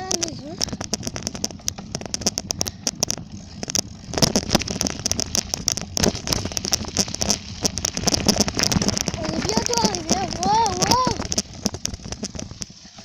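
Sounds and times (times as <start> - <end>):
bicycle rattling clicks and knocks: 0.0 - 13.0.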